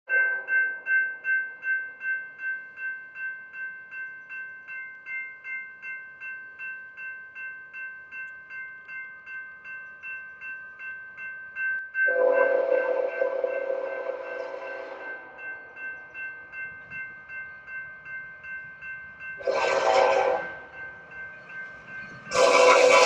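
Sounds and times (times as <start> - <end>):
railroad crossing bell ringing: 0.1 - 23.0.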